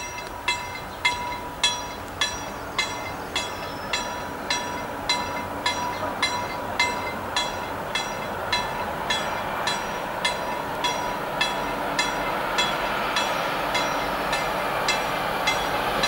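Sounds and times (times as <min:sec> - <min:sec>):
freight train wheels on rail: 0:00.0 - 0:16.0.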